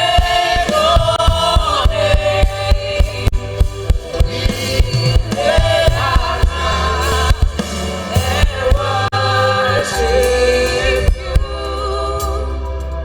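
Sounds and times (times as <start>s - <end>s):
band with drums and bass: 0.0s - 13.0s
gospel singers: 0.0s - 13.0s.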